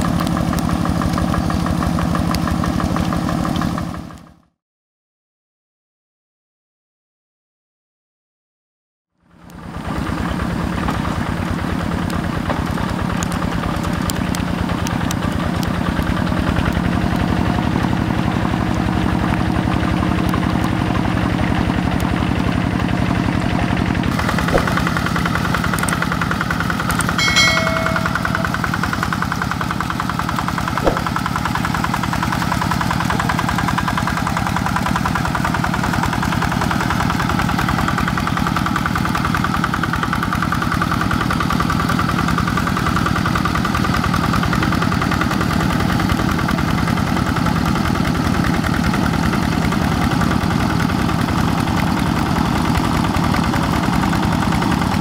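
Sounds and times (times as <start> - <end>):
diesel engine running under load: 0.0 - 4.4, 9.2 - 55.0.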